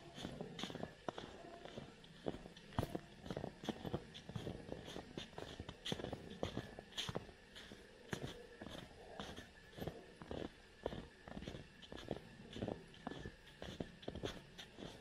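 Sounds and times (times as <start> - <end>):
footsteps crunching through snow: 0.0 - 15.0
snow crackling: 0.0 - 15.0.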